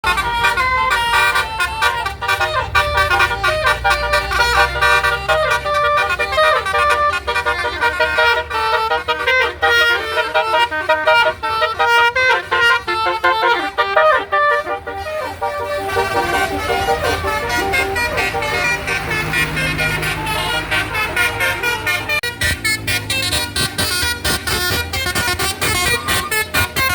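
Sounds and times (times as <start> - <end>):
multi-tone bus horn melody: 0.0 - 26.9.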